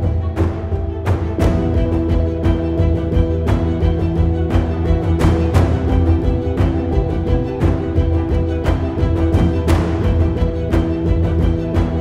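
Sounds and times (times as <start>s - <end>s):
background music with held chords: 0.0s - 12.0s
deep pulsing bass: 0.0s - 12.0s
percussive hits: 0.0s - 12.0s.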